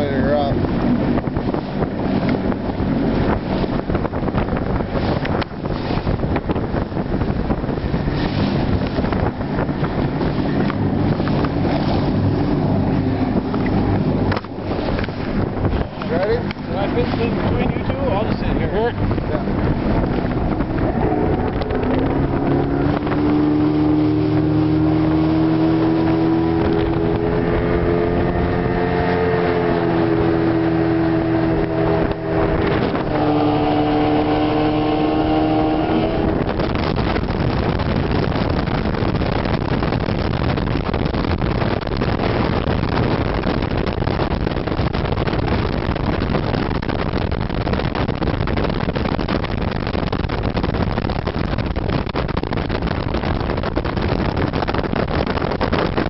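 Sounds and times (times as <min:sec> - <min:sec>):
outboard motor running at speed: 0:00.0 - 0:56.0
wind and water rushing: 0:00.0 - 0:56.0.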